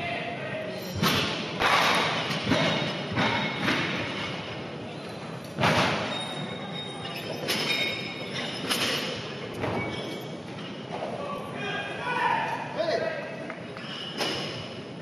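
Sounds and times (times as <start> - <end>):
crowd noise in a gymnasium: 0.0 - 15.0.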